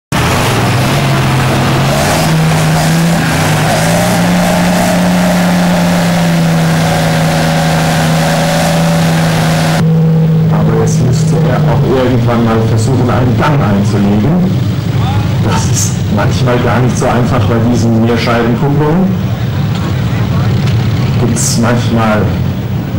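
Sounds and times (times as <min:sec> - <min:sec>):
tractor diesel engine fast idle: 0:00.1 - 0:22.9.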